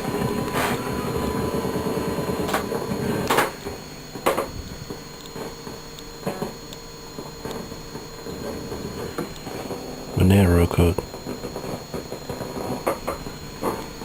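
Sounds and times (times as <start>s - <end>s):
high-pitched electrical whine: 0.0s - 14.0s.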